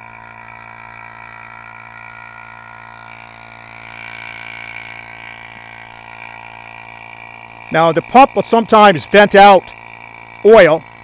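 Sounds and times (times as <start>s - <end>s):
vacuum pump drone: 0.0s - 11.0s.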